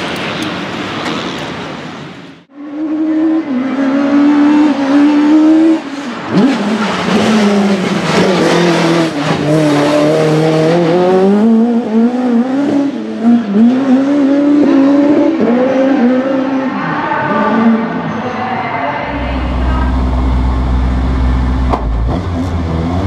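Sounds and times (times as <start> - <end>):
car engine revving: 2.4 - 18.1, 18.9 - 23.0.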